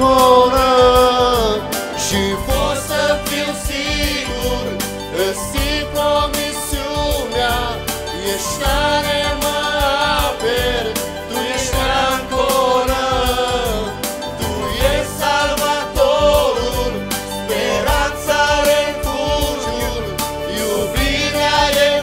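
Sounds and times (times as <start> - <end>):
drums: 0.0 - 22.0
keyboard: 0.0 - 22.0
voices singing worship song: 0.0 - 22.0.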